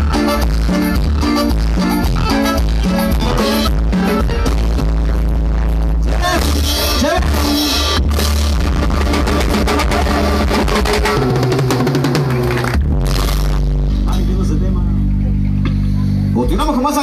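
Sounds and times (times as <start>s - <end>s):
live band playing dance music: 0.0s - 17.0s.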